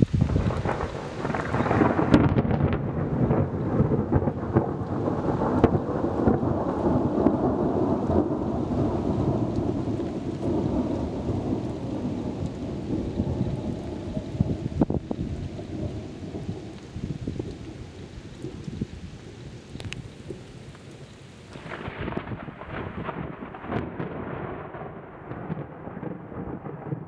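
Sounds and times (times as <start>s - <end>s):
thunder clap and rumble: 0.0s - 19.2s, 21.5s - 27.0s.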